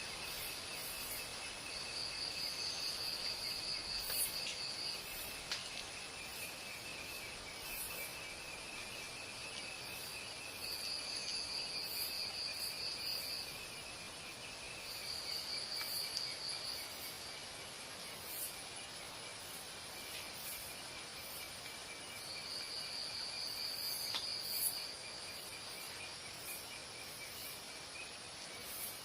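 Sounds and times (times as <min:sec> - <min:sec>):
insect pulsed trill: 0:00.0 - 0:29.0
insects buzzing: 0:00.0 - 0:29.0.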